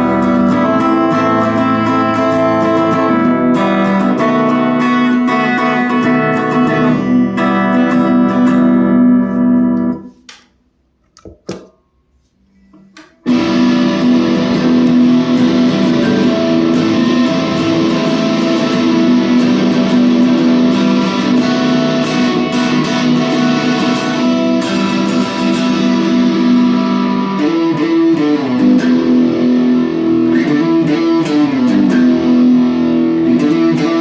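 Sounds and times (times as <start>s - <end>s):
distorted electric guitar: 0.0s - 10.1s, 12.7s - 34.0s.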